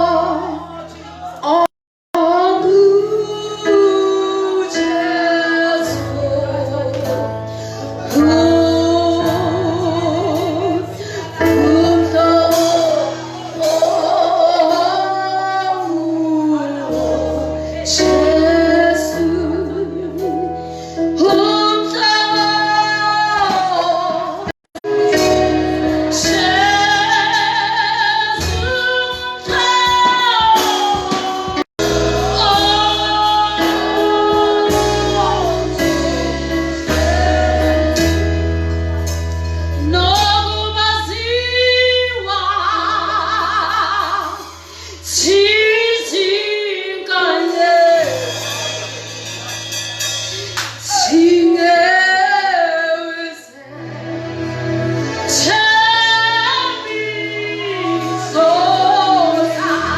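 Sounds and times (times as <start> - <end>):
woman singing gospel song: 0.0 - 7.4, 8.0 - 38.7, 39.8 - 48.7, 50.8 - 59.9.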